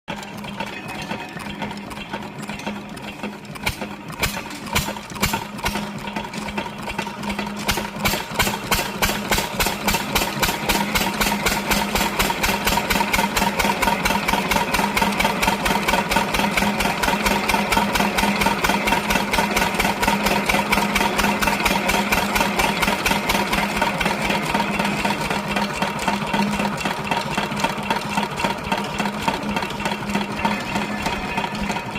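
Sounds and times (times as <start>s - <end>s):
diesel engine running: 0.1s - 31.9s.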